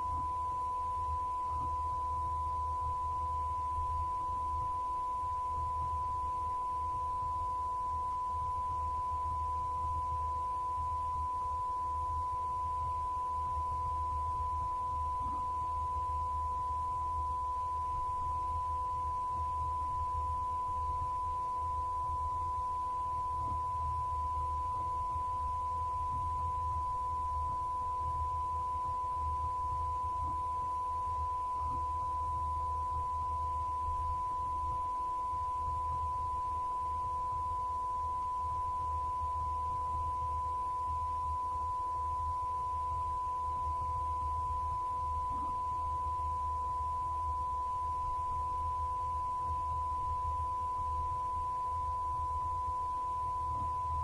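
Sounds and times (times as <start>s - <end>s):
fainter lower tone: 0.0s - 54.0s
low hum: 0.0s - 54.0s.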